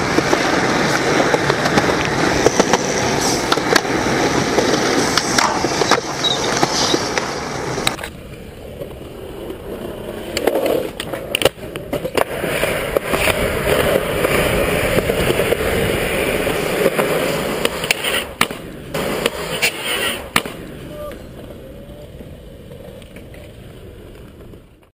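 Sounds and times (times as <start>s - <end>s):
skateboard clacks and knocks: 0.0s - 24.9s
skateboard wheels rolling on concrete: 0.0s - 24.9s.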